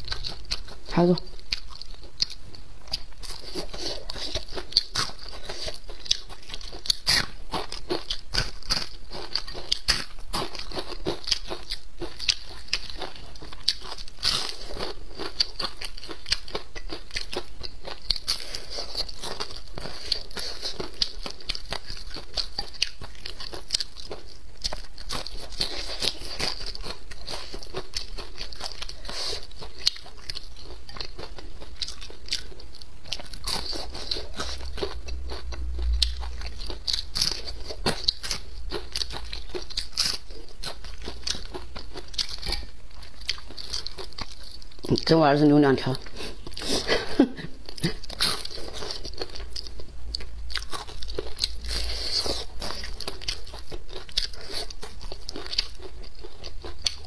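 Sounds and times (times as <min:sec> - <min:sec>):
crisp crunching chewing: 0:00.0 - 0:57.0.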